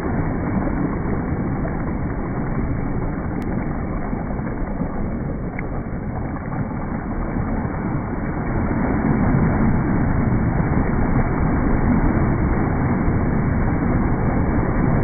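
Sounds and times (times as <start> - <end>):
small waves washing onto shore: 0.0 - 15.0
wind buffeting microphone: 0.0 - 15.0.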